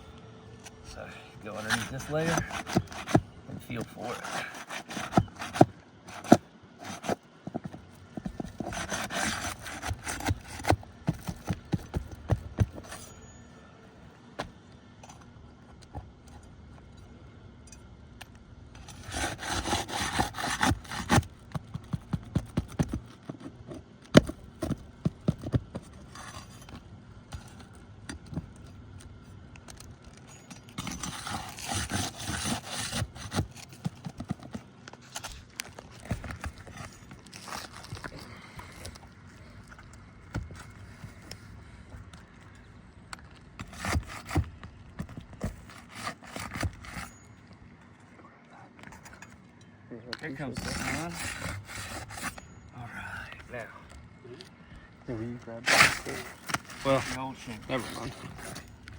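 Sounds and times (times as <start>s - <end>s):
tool scraping under shingles: 0.6s - 13.4s, 18.8s - 28.6s, 29.8s - 47.6s, 50.2s - 52.6s, 54.5s - 58.9s.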